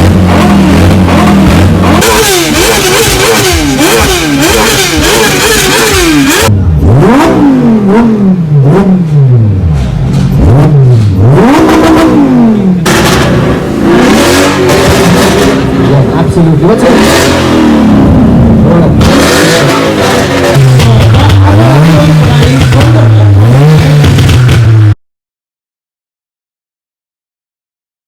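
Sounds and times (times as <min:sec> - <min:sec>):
supercar engines revving: 0:00.0 - 0:25.0.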